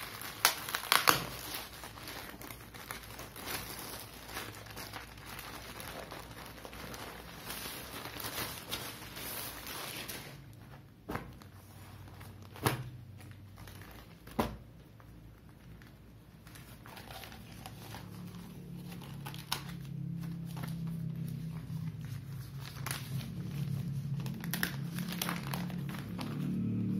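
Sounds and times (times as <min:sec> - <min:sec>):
low steady hum: 0:00.0 - 0:26.9
plastic bags crinkling: 0:00.0 - 0:26.9.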